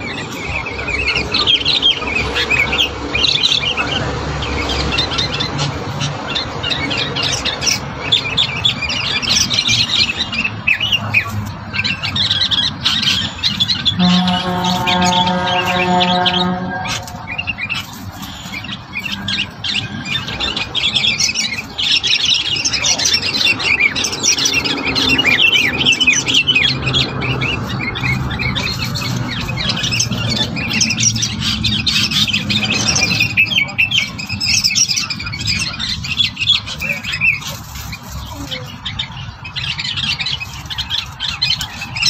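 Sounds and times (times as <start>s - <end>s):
small songbirds chirping: 0.0s - 42.0s.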